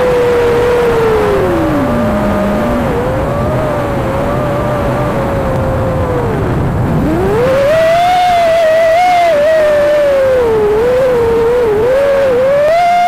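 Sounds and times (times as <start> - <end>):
quadcopter motors whining: 0.0 - 13.0
wind rush: 0.0 - 13.0.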